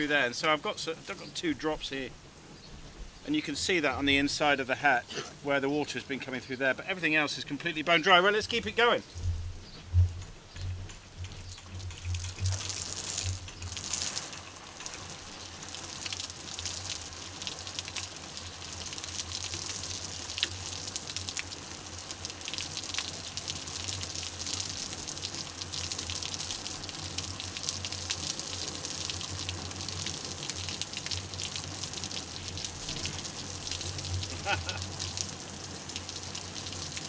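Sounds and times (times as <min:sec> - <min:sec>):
hose spray pattering on surfaces: 0:06.8 - 0:37.0.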